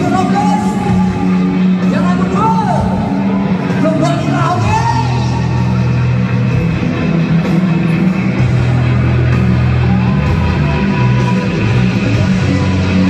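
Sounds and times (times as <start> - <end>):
bass line: 0.0 - 13.0
hard rock music: 0.0 - 13.0.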